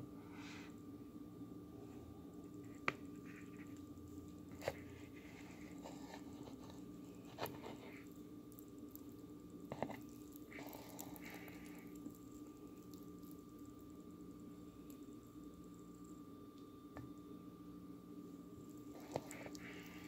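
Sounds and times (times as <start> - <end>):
soft squishing of moist pasta: 1.6 - 20.0.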